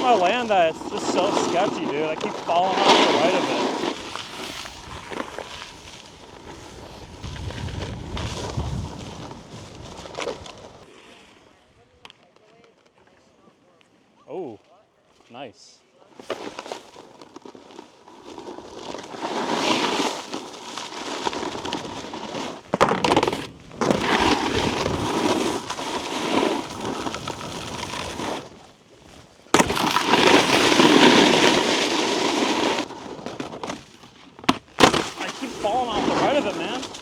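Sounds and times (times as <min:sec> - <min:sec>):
snowboard scraping over icy snow: 0:00.0 - 0:11.0, 0:16.1 - 0:37.0.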